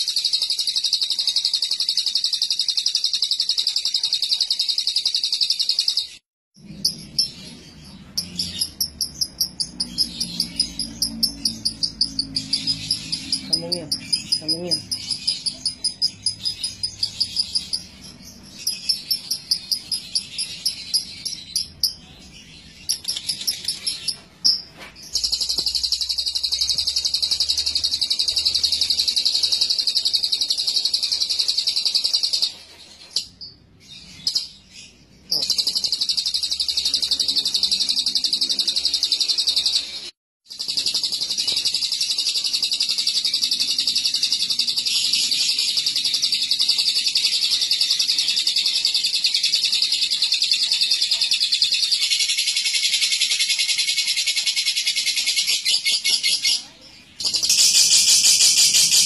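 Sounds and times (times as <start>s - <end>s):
bird chattering trill: 0.0s - 22.1s, 22.7s - 32.6s, 35.2s - 59.0s.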